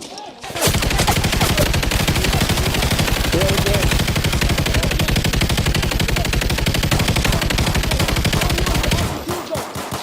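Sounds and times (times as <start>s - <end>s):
automatic gunfire: 0.5s - 10.0s.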